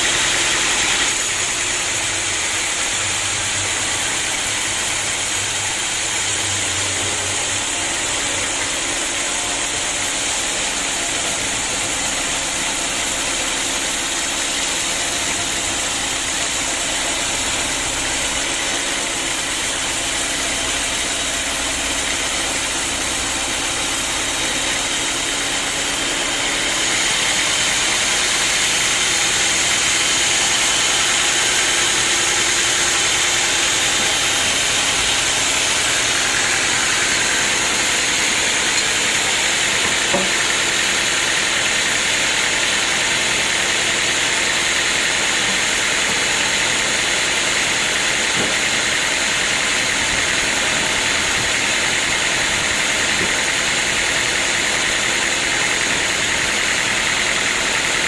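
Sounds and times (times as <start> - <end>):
sawmill machinery hissing: 0.0 - 58.0.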